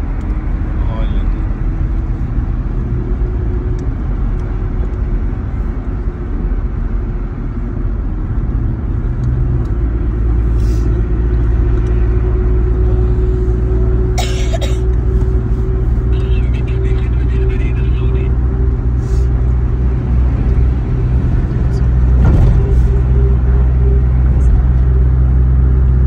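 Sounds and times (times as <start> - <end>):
road and engine noise in car cabin: 0.0 - 26.0.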